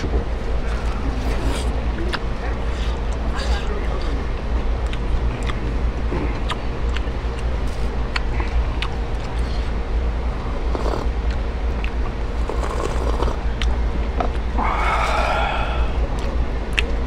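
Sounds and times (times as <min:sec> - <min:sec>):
low rumble: 0:00.0 - 0:17.0
mouth sounds eating: 0:00.6 - 0:17.0.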